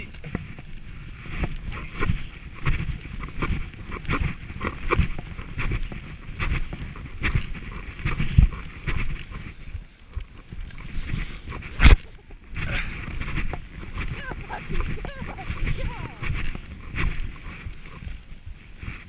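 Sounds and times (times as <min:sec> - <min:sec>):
sled knocking and rattling: 0:00.0 - 0:19.0
sled runners scraping on snow: 0:00.0 - 0:19.0.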